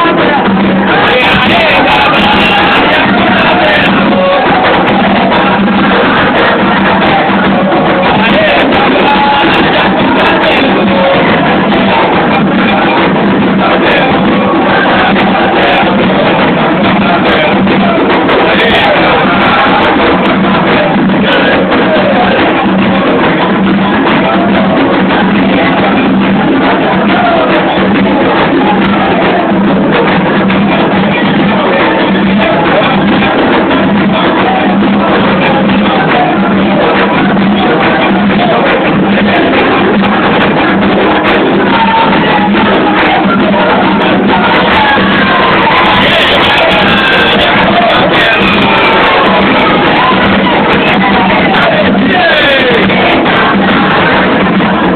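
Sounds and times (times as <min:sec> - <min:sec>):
group singing a chant: 0:00.0 - 0:54.9
hand drumming: 0:00.0 - 0:54.9.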